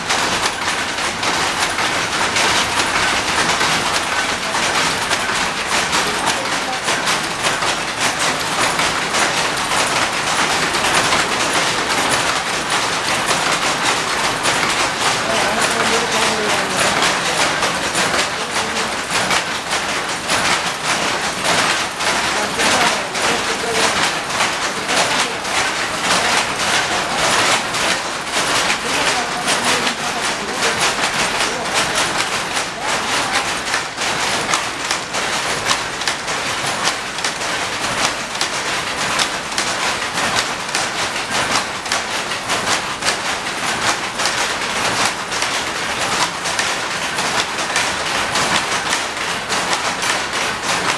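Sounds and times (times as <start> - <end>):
power looms clattering: 0.0 - 50.9.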